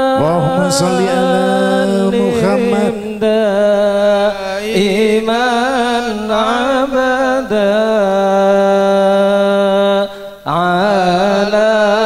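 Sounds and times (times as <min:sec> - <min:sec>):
man chanting a prayer-song: 0:00.0 - 0:12.0.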